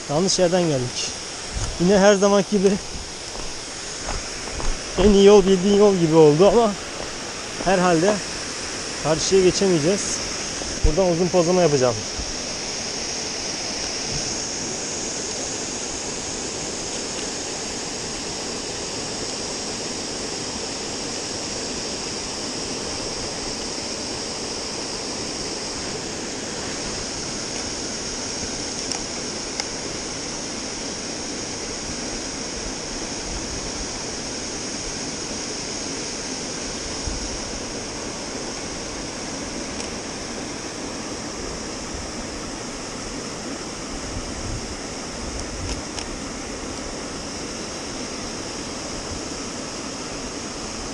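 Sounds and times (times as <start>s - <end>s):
small waterfall rushing: 0.0s - 50.9s.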